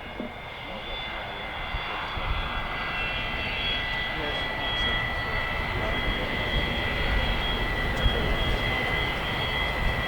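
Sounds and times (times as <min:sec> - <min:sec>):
jet engines rumbling and whining: 0:00.0 - 0:10.0.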